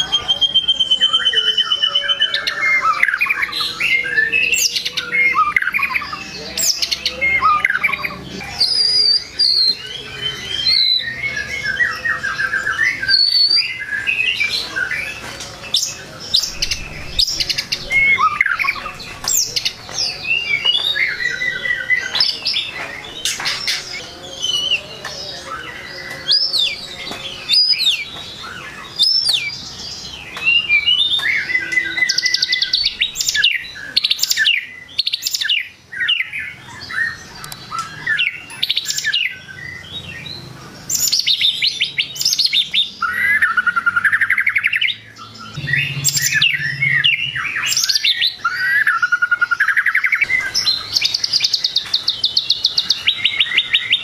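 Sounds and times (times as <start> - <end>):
songbird singing varied phrases: 0.0 - 54.0.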